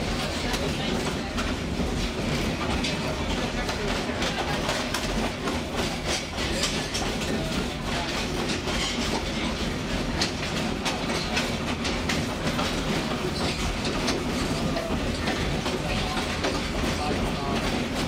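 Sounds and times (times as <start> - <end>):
train car rumbling and rattling: 0.0 - 18.0
wheels clacking over rails: 0.0 - 18.0.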